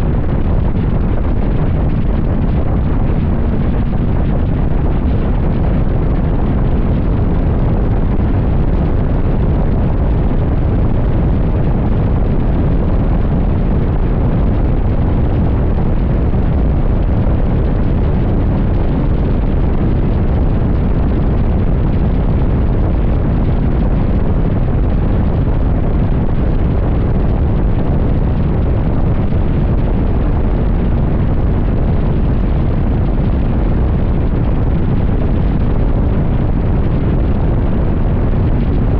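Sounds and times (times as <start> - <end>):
wind blasting microphone: 0.0 - 38.9.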